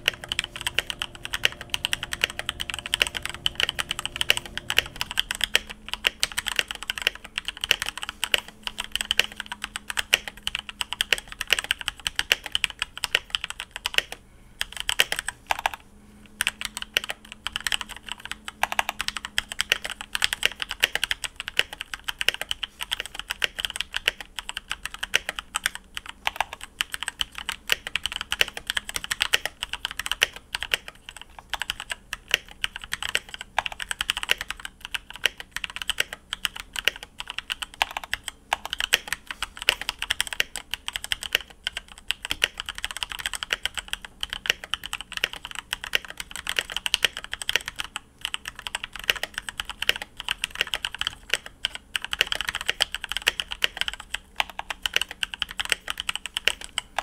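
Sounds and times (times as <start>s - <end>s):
mechanical keyboard typing: 0.0s - 57.0s.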